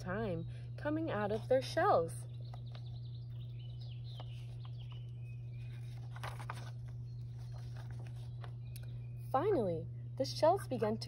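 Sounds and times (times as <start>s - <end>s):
small birds chirping: 0.0s - 10.2s
steady low hum: 0.0s - 11.0s.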